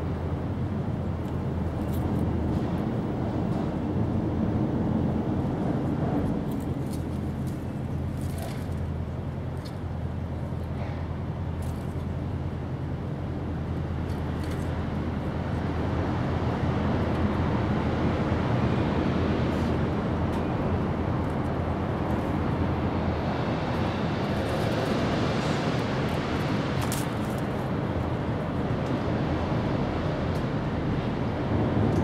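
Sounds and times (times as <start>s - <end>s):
distant traffic rumble: 0.0s - 32.0s.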